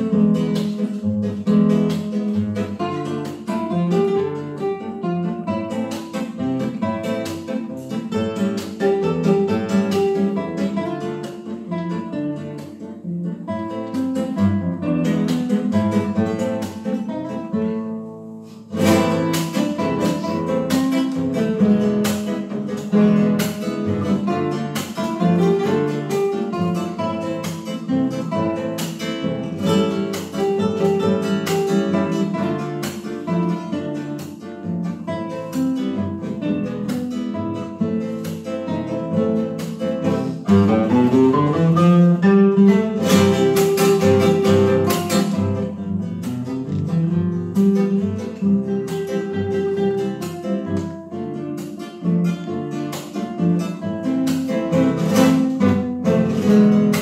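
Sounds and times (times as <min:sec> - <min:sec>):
acoustic guitar duet: 0:00.0 - 0:57.0.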